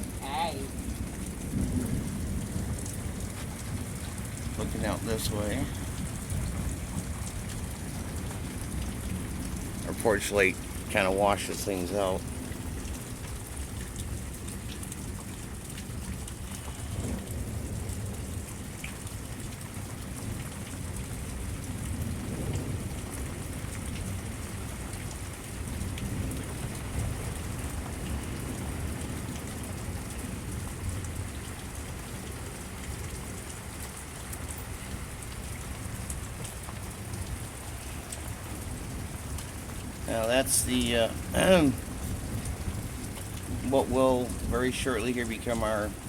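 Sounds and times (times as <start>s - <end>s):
rain pouring on a roof: 0.0s - 46.0s.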